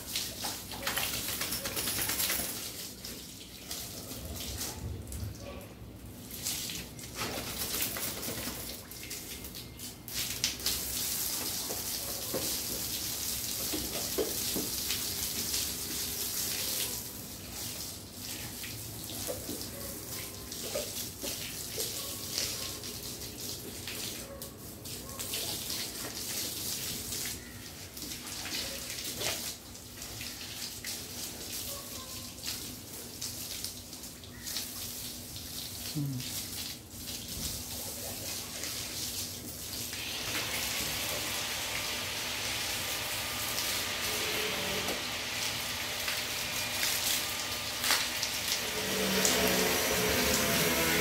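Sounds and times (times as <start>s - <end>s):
hose water splashing: 0.0s - 51.0s.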